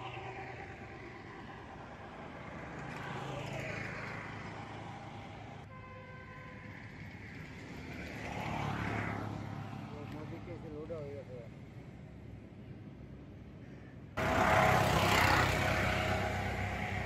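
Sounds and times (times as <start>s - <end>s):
vehicle engines passing: 0.0s - 5.7s, 6.4s - 13.5s, 14.1s - 17.0s.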